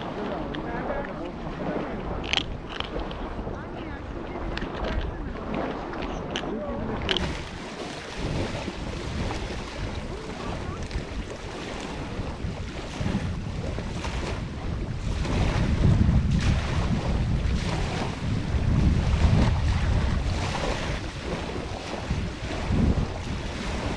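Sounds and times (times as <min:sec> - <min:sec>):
small waves on pebble beach: 0:00.0 - 0:23.9
wind buffeting microphone: 0:00.0 - 0:23.9.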